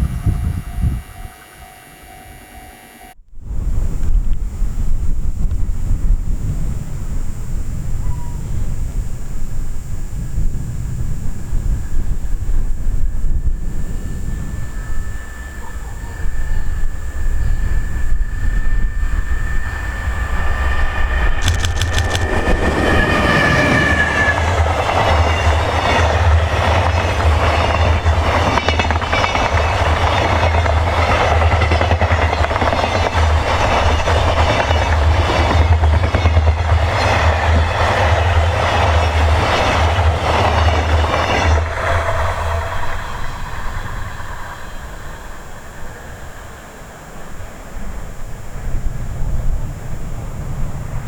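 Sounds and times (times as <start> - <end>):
locomotive high whine: 0.0 - 51.0.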